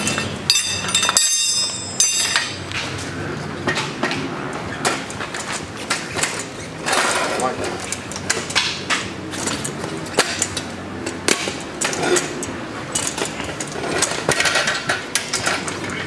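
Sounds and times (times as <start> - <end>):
metal knocks and clanks: 0.0 - 16.0.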